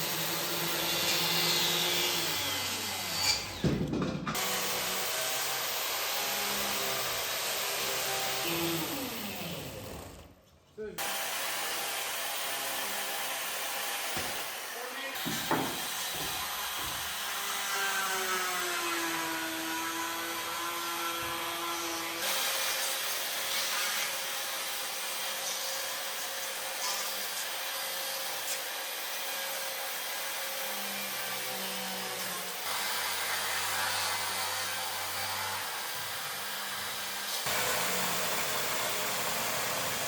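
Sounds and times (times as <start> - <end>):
power tool grinding into log: 0.0 - 3.7, 11.0 - 40.0.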